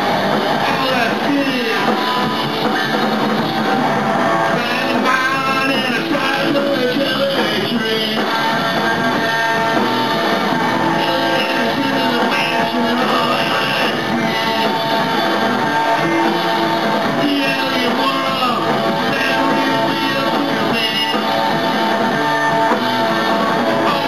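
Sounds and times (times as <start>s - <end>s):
drum kit: 0.0s - 24.0s
electric guitars: 0.0s - 24.0s.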